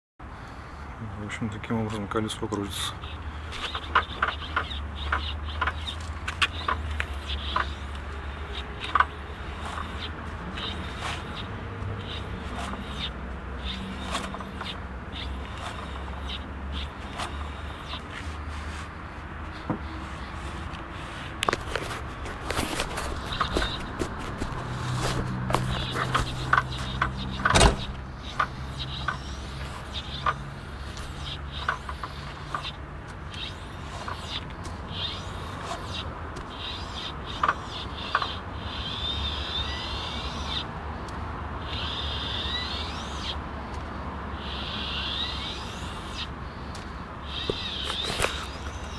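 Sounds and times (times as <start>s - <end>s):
wheel squeaking: 1.2s - 48.9s.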